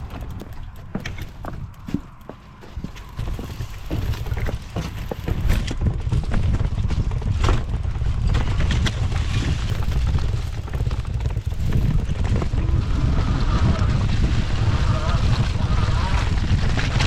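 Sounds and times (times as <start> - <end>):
bike clacking and rattling: 0.0 - 17.0
bike riding low rumble: 0.0 - 17.0.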